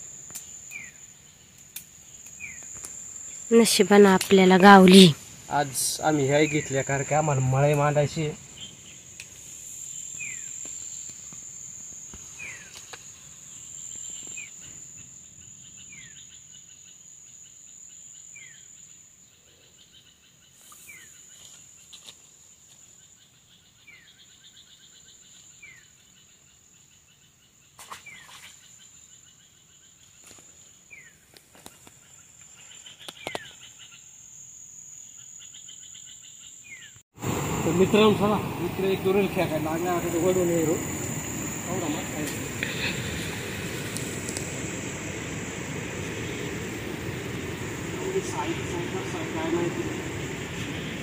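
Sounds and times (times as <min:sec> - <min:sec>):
insects buzzing: 0:00.0 - 0:51.0.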